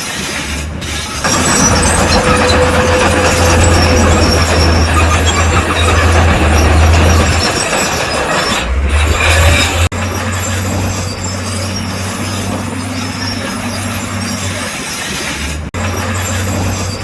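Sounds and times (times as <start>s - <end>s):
metallic grinding and squealing: 0.0s - 17.0s
low diesel engine drone: 0.5s - 17.0s.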